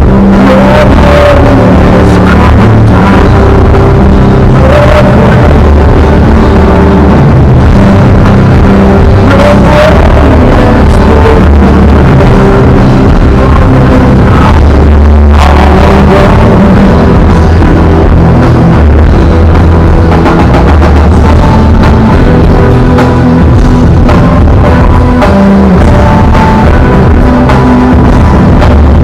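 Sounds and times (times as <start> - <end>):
drum kit beating: 0.0 - 29.0
live rock band playing: 0.0 - 29.0
low bass notes: 0.0 - 29.0.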